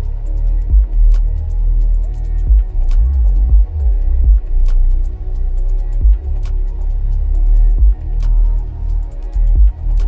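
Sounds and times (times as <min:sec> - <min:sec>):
light percussive ticks: 0:00.0 - 0:10.0
music with heavy bass line: 0:00.0 - 0:10.0.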